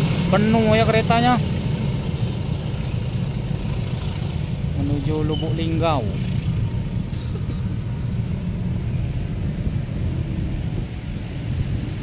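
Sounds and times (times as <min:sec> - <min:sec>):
passenger train rumbling: 0:00.0 - 0:12.0.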